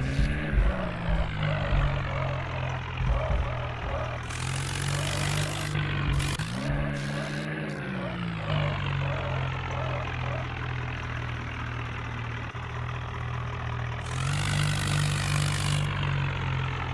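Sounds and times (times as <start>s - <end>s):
tractor engine idling: 0.0s - 16.9s.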